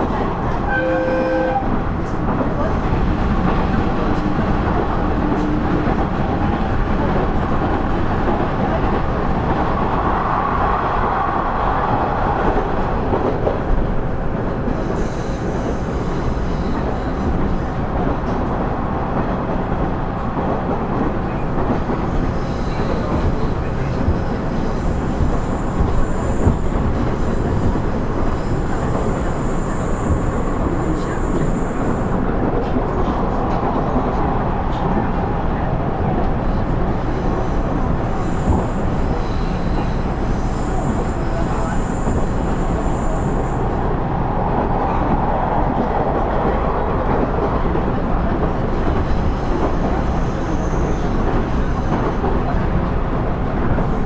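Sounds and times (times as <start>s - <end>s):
railcar engine and wheels rumbling: 0.0s - 54.0s.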